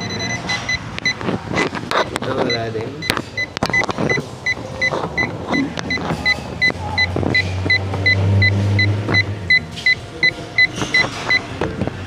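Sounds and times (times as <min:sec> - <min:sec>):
voltage detector beeping: 0:00.0 - 0:01.8, 0:02.4 - 0:11.5.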